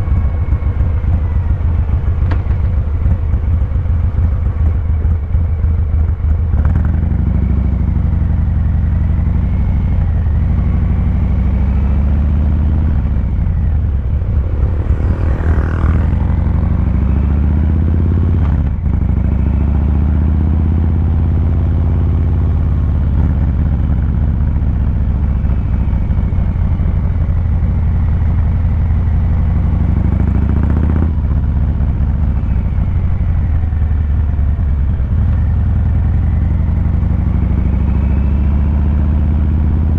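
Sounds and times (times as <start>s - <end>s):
motorcycle engine idling: 0.0s - 38.8s.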